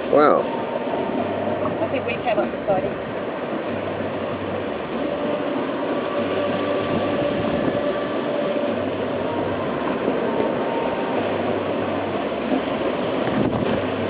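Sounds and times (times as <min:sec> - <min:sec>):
wind and water rushing past boat: 0:00.0 - 0:14.0.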